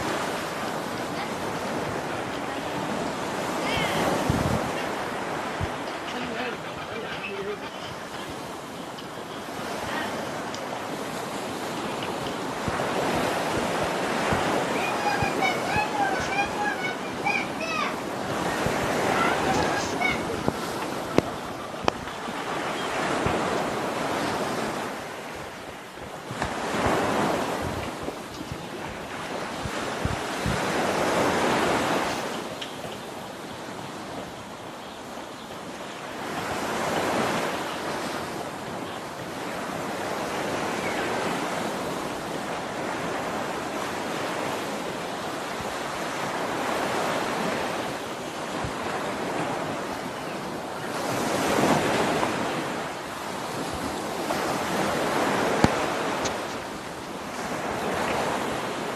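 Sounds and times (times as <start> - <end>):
rushing water: 0.0 - 58.9
wind buffeting microphone: 0.0 - 58.9.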